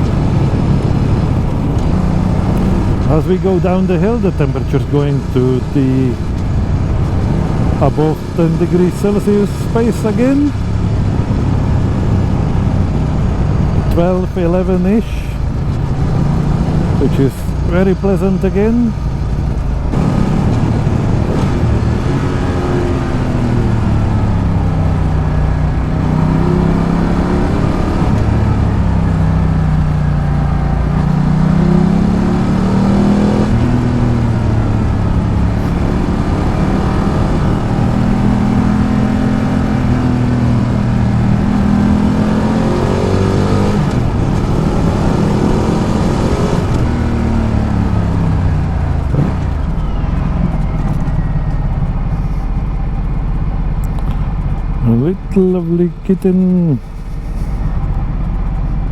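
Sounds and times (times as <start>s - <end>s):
motorcycle engine revving: 0.0s - 58.9s
wind and road noise: 0.0s - 58.9s.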